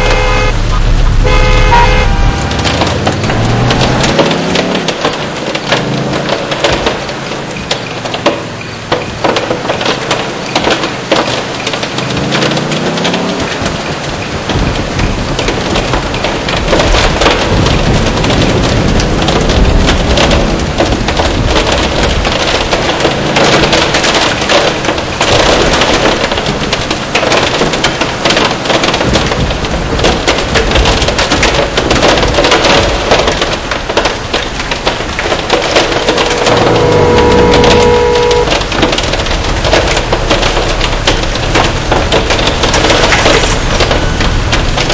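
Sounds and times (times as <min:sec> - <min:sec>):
hail hitting car: 0:00.0 - 0:44.9
heavy rain roar: 0:00.0 - 0:44.9.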